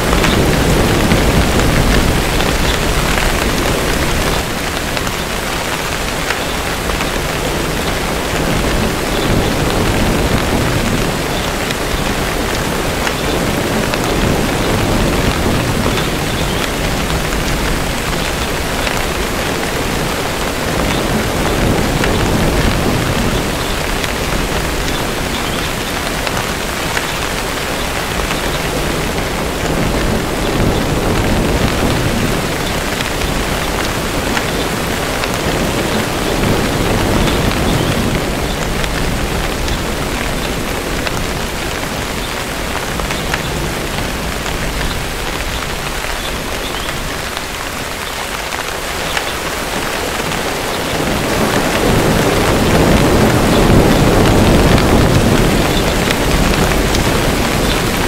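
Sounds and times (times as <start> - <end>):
distant thunder rumbling: 0.0 - 58.0
heavy rain: 0.0 - 58.0.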